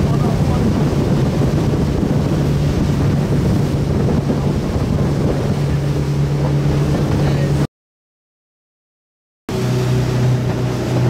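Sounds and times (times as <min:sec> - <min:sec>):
boat engine running: 0:00.0 - 0:07.7, 0:09.5 - 0:11.0
water rushing past hull: 0:00.0 - 0:07.7, 0:09.5 - 0:11.0
wind buffeting microphone: 0:00.0 - 0:07.7, 0:09.5 - 0:11.0.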